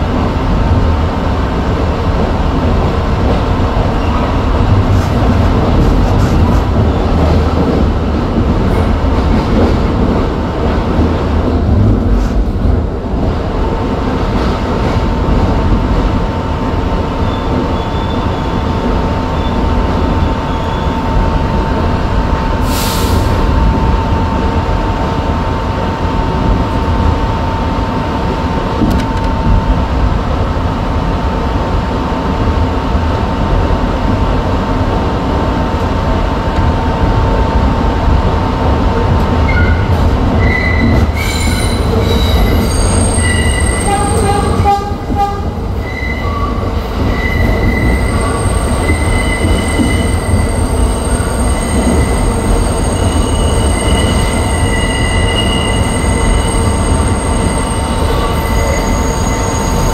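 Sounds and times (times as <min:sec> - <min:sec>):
wheel and track rumble: 0:00.0 - 0:59.9.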